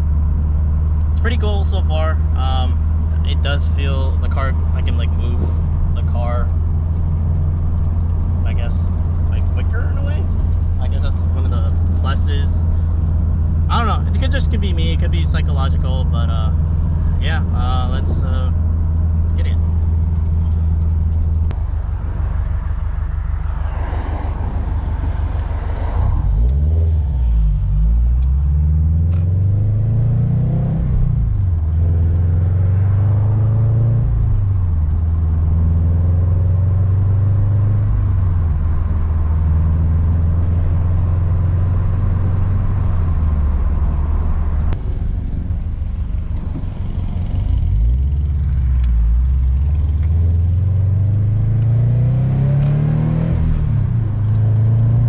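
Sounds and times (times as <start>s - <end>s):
car engine from inside cabin: 0.0s - 55.0s
road rumble: 0.0s - 55.0s.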